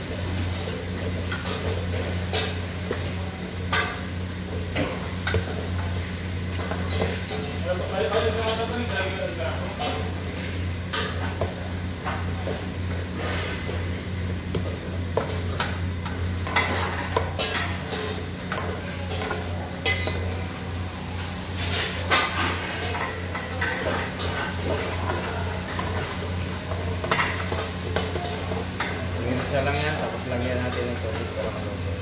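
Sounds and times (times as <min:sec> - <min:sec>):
meat sizzling: 0:00.0 - 0:32.0.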